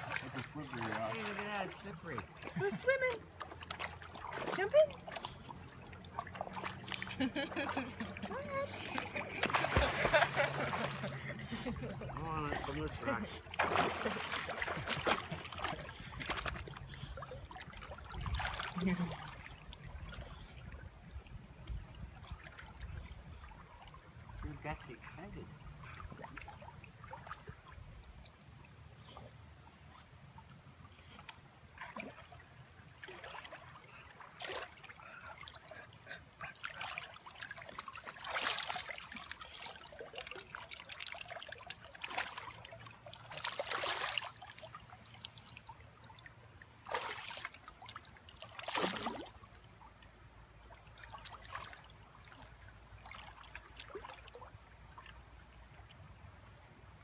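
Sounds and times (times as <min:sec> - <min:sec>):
splashes in water: 0:00.0 - 0:20.9, 0:21.9 - 0:29.3, 0:31.0 - 0:50.0, 0:50.6 - 0:55.9
creek water trickling: 0:00.0 - 0:57.0.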